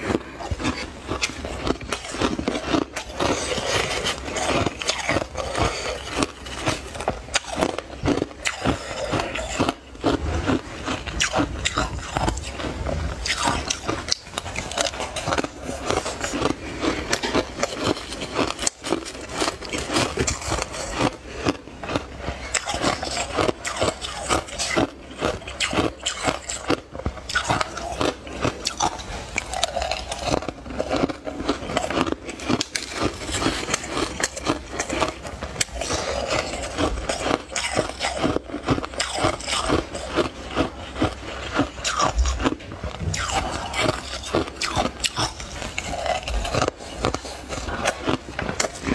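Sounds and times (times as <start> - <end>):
crushed ice being chewed: 0.0 - 48.9.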